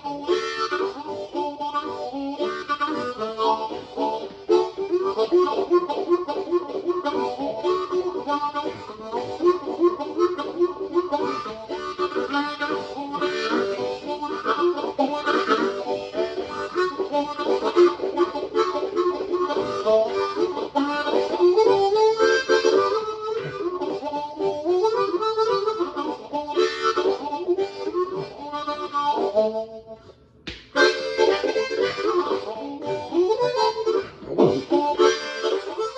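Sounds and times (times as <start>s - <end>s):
harmonica playing a tune: 0.0s - 35.9s.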